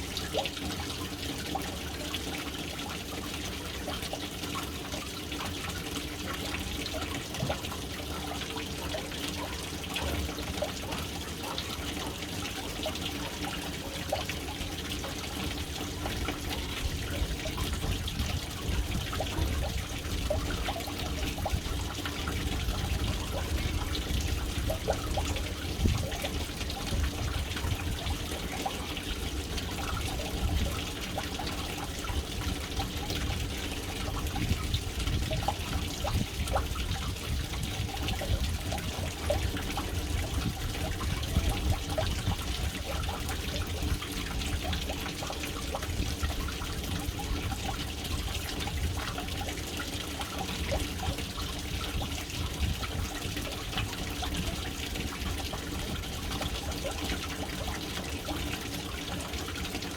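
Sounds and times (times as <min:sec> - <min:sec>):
water splashing into a tank: 0:00.0 - 0:59.9.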